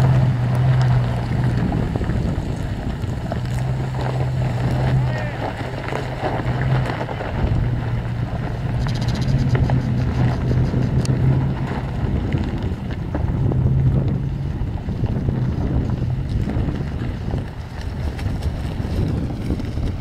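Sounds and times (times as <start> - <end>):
engine running with low hum: 0.0 - 20.0
wind buffeting microphone: 0.0 - 20.0.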